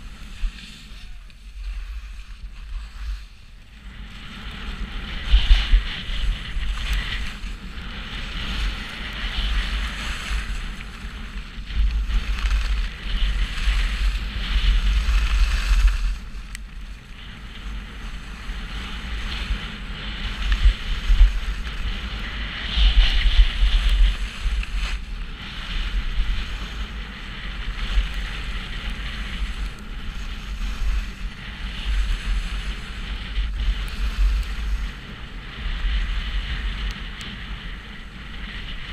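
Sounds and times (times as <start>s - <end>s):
skis scraping on snow: 0.0s - 38.9s
wind buffeting microphone: 0.0s - 38.9s.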